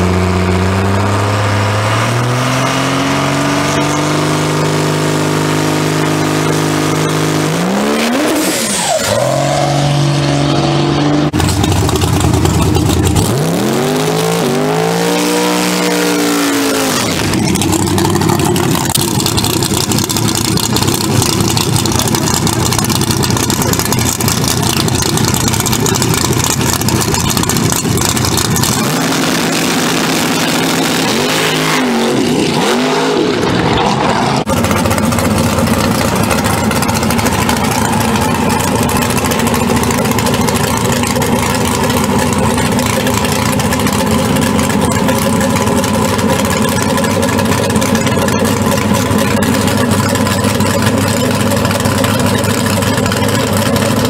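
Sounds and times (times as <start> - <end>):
drag car engine revving: 0.0 - 54.0
drag car engine rumbling: 0.0 - 54.0.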